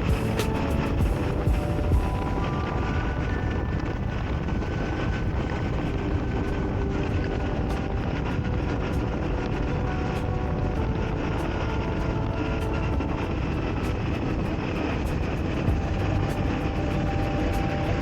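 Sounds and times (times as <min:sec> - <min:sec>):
motorcycle engine cruising: 0:00.0 - 0:18.0
wind rush on microphone: 0:00.0 - 0:18.0.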